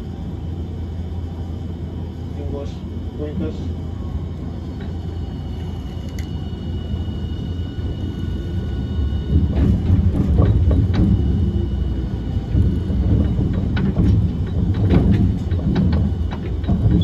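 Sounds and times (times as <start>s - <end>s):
tram running low rumble: 0.0s - 17.0s.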